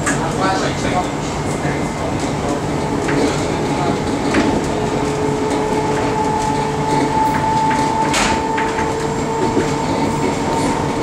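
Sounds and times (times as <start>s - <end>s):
train rumbling at speed: 0.0s - 11.0s.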